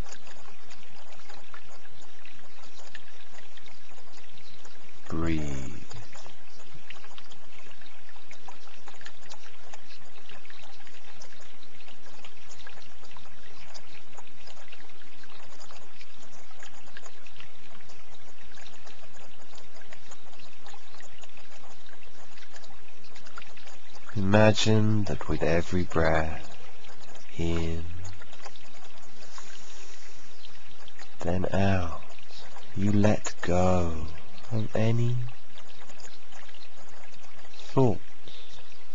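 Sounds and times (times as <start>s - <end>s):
water trickling with small splashes: 0.0s - 38.9s.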